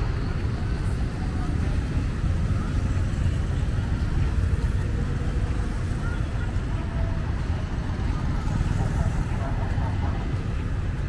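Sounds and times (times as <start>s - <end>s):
cars and motorbikes passing: 0.0s - 11.0s.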